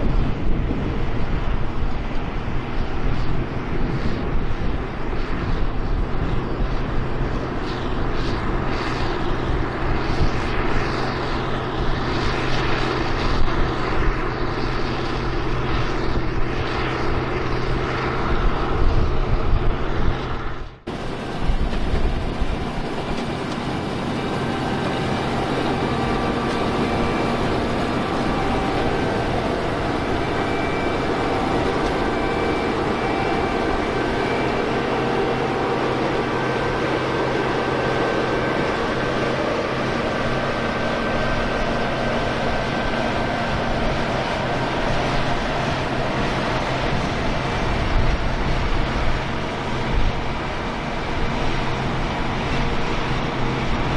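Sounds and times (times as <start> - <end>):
combine harvester drone: 0.0 - 53.9.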